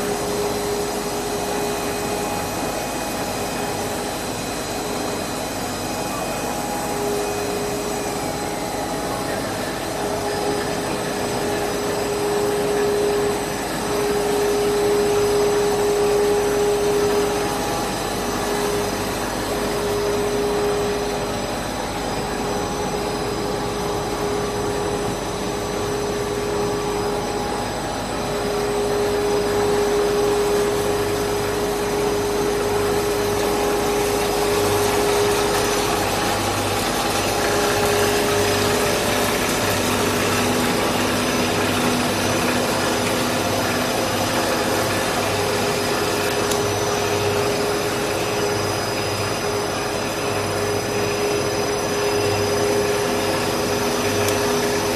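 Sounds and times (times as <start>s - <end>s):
mid-pitched machine tone: 0.0s - 54.9s
production line machinery drone: 0.0s - 54.9s.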